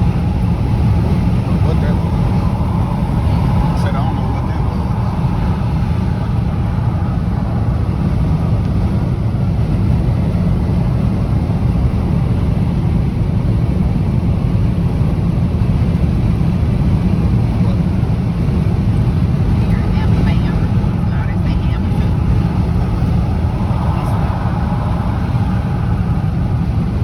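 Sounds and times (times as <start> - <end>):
gusting wind buffeting microphone: 0.0 - 27.0.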